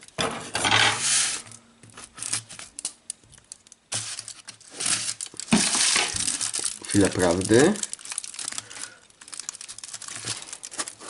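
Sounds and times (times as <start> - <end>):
paper crinkling and tearing: 1.0 - 11.0.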